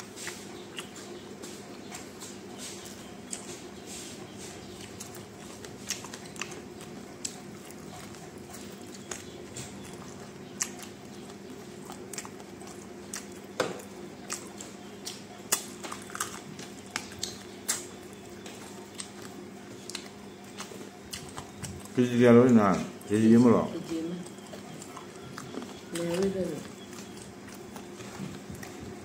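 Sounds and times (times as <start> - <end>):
chewing with wet smacks: 0.0 - 29.0
steady low hum: 0.0 - 29.0.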